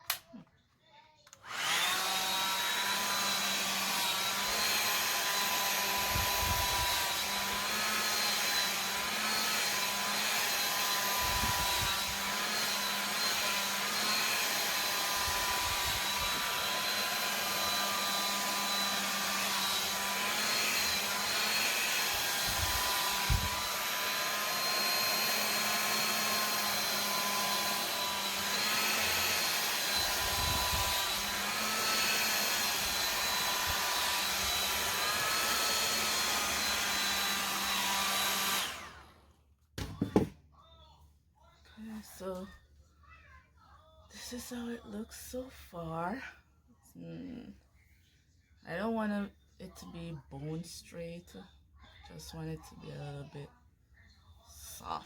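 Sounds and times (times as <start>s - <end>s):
hair dryer whirring: 0.0s - 0.4s, 1.3s - 40.4s, 41.8s - 42.5s, 44.2s - 46.2s, 48.7s - 51.2s, 54.6s - 55.0s.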